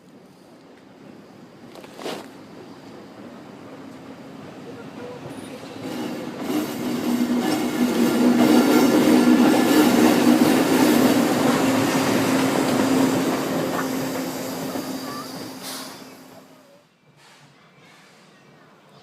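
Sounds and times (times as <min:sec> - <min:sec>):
train rail noise: 0:00.0 - 0:19.0
locomotive hum: 0:00.1 - 0:16.9.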